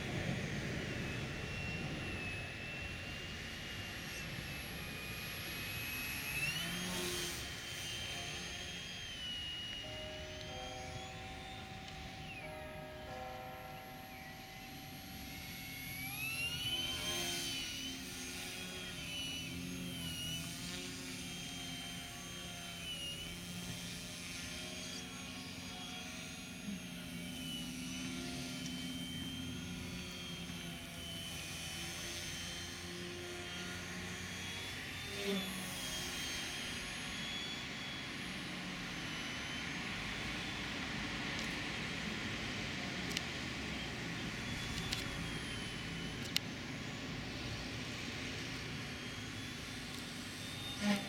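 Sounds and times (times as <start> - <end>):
model plane motor whine: 0.0 - 51.0.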